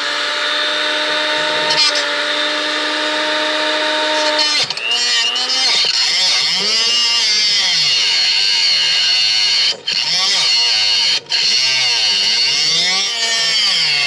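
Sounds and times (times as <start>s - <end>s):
angle grinder cutting metal: 0.0s - 14.0s.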